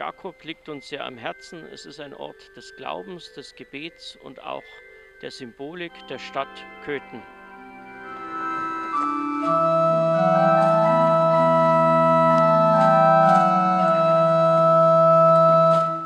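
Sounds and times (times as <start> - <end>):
pipe organ chords: 0.0 - 16.0.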